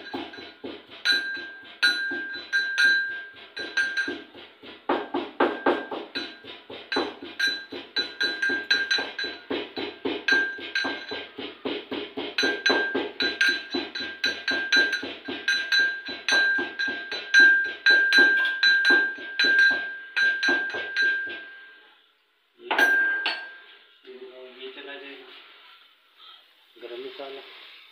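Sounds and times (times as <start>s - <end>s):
metal mortar and pestle pounding: 0.0s - 21.9s, 22.6s - 23.8s.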